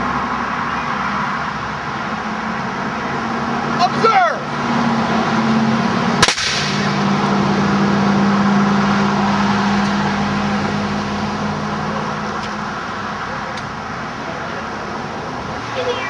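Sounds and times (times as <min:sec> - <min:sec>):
broad rushing noise: 0:00.0 - 0:16.0.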